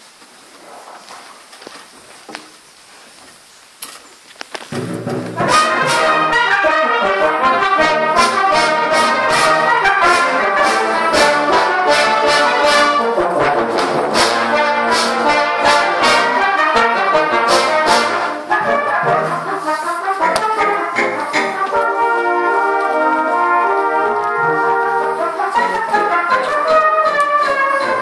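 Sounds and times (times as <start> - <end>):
brass band playing classical music: 4.8 - 28.0.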